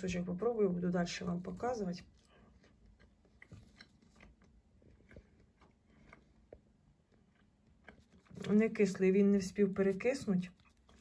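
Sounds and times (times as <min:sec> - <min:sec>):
chewing bread: 0:01.2 - 0:09.0, 0:09.9 - 0:11.0.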